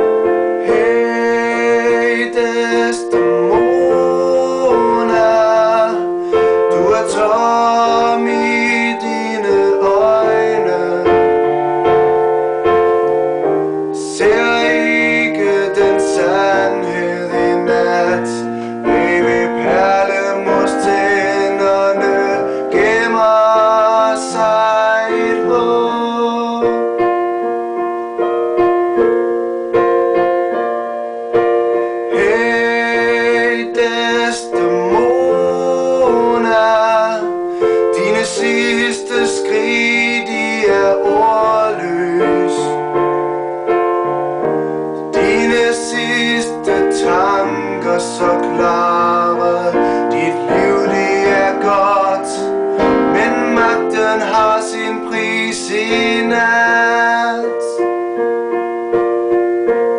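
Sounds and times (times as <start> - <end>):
piano chords and melody: 0.0 - 59.9.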